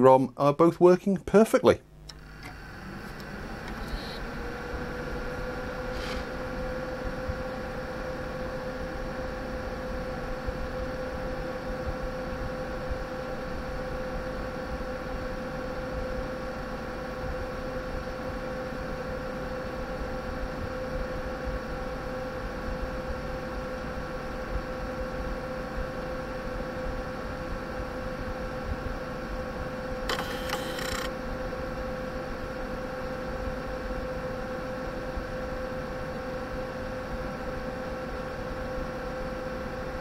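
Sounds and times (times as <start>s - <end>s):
mid-pitched whine: 0.0s - 40.0s
server cooling fans whirring: 0.0s - 40.0s.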